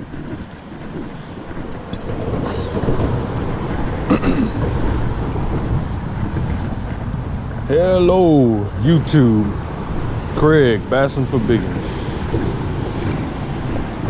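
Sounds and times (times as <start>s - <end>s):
low outdoor rumbling: 0.0s - 14.0s.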